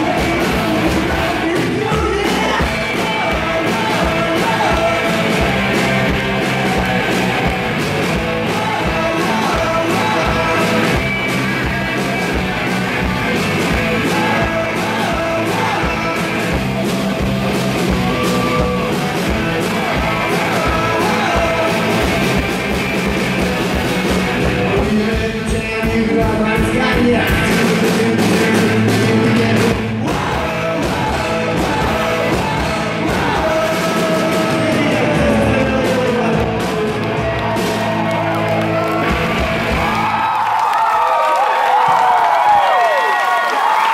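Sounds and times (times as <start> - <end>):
sung and shouted vocals: 0.0 - 22.6, 24.1 - 43.9
live rock band playing: 0.0 - 40.6.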